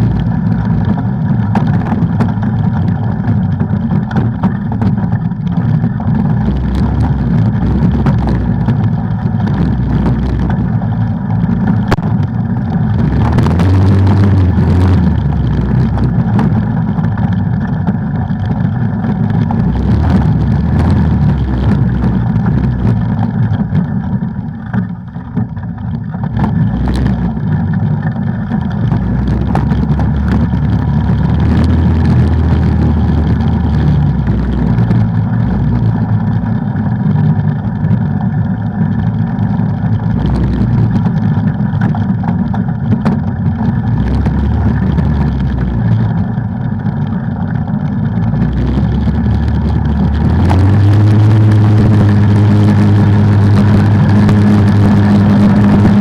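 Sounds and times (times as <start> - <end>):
atv engine running under load: 0.0 - 56.0.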